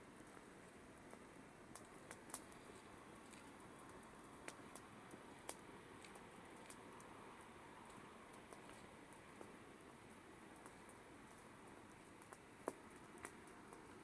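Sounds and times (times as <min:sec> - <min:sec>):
campfire crackling: 0:00.0 - 0:14.0
faint steady hiss: 0:00.0 - 0:14.0.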